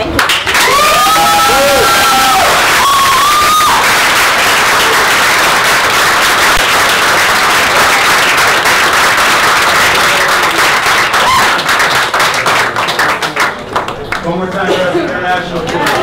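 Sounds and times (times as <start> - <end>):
audience applauding: 0.1 - 16.0.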